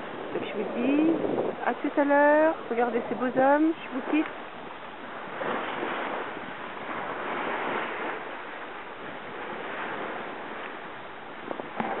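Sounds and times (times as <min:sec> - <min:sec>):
water rushing along a boat hull: 0:00.0 - 0:12.0
wind on the microphone: 0:00.0 - 0:12.0.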